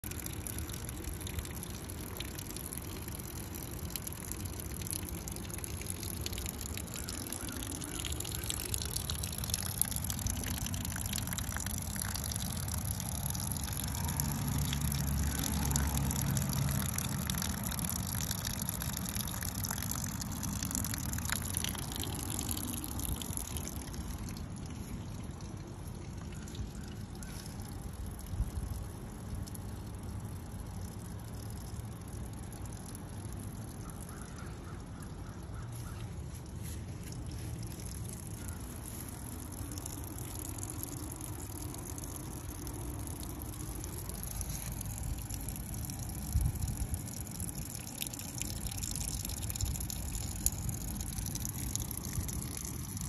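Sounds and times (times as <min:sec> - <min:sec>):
water trickling from planter: 0:00.0 - 0:53.0.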